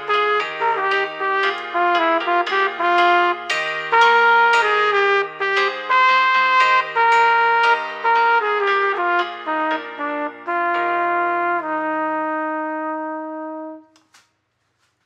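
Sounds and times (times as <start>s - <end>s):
trumpet playing: 0.0s - 14.0s.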